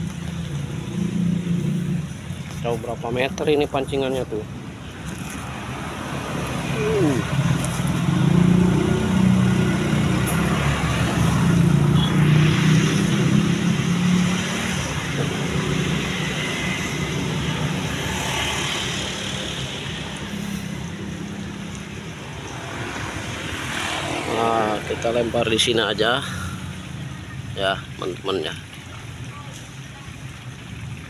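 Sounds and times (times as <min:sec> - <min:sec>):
vehicle engine humming: 0:00.0 - 0:25.5
road traffic noise: 0:00.0 - 0:31.0.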